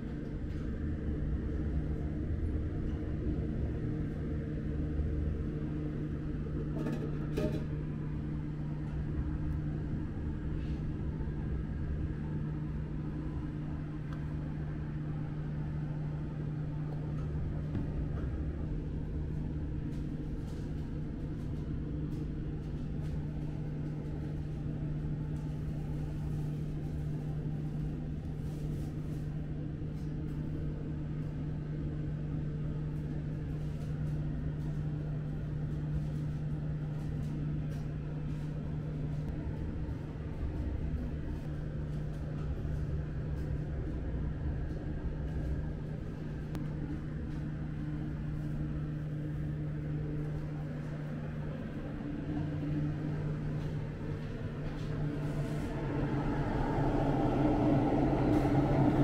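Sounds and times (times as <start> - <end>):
toaster oven motor and fan hum: 0.0 - 59.0.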